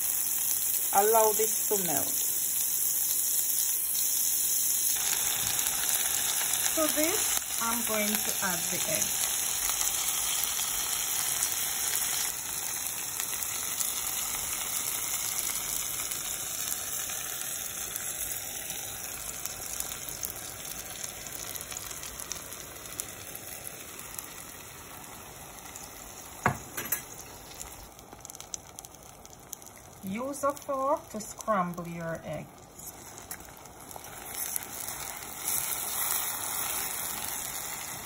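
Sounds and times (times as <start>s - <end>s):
vegetables sizzling in a frying pan: 0.0s - 38.0s.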